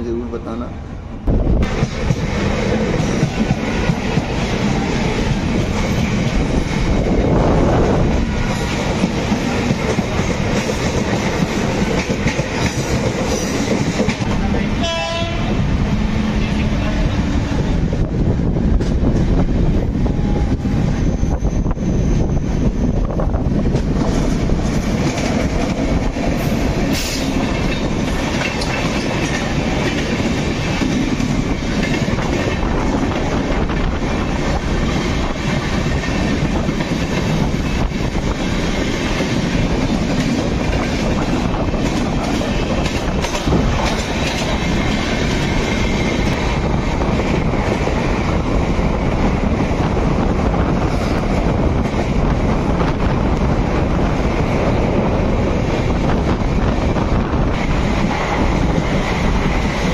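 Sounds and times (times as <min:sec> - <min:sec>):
rail clicks: 0:00.0 - 0:59.9
trains passing: 0:00.0 - 0:59.9
wheel and rail noise: 0:00.1 - 0:59.9.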